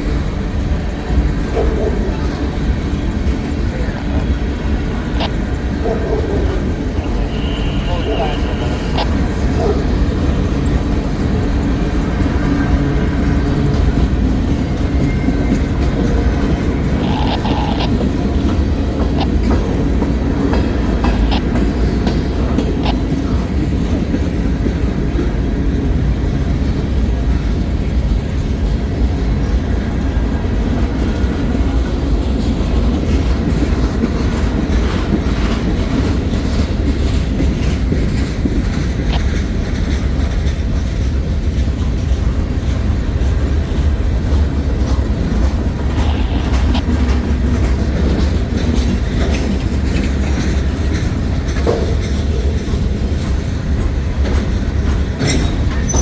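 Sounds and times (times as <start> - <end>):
freight train rumbling past: 0.0 - 56.0
wheels clicking over rail joints: 0.0 - 56.0.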